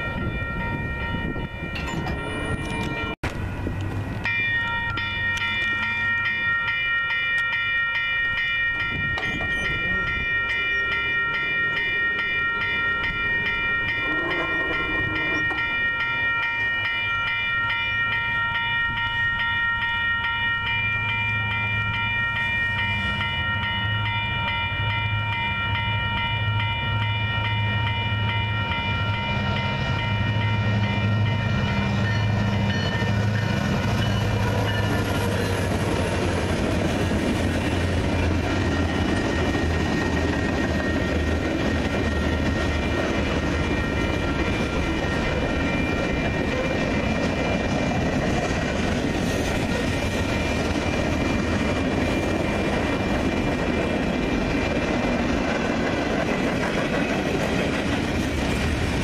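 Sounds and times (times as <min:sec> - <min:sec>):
crossing bell ringing: 0:00.0 - 0:59.0
freight train rumbling past: 0:00.0 - 0:59.0.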